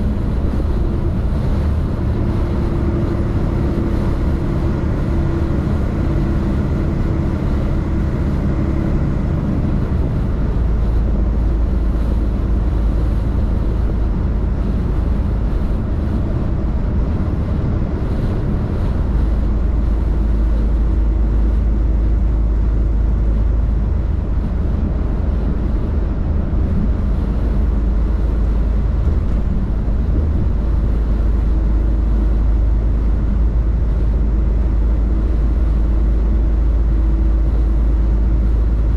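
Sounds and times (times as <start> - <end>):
road rumble: 0.0 - 38.9
truck engine drone: 0.0 - 38.9.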